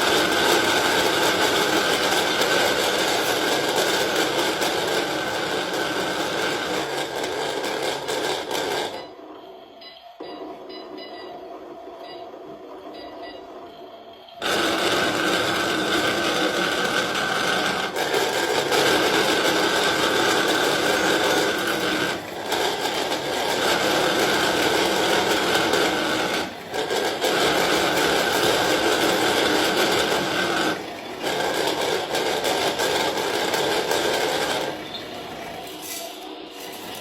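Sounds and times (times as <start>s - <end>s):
washing machine running: 0.0s - 37.0s.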